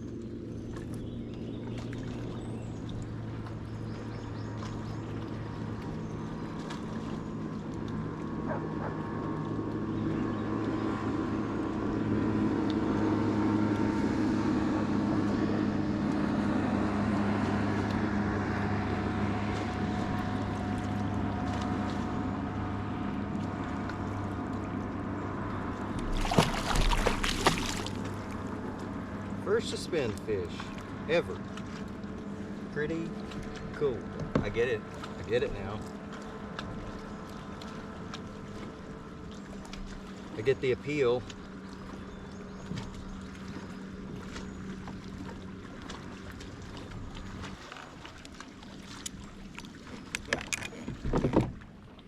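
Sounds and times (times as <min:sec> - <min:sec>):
boat motor humming: 0:00.0 - 0:52.0
water splashing: 0:00.0 - 0:52.0.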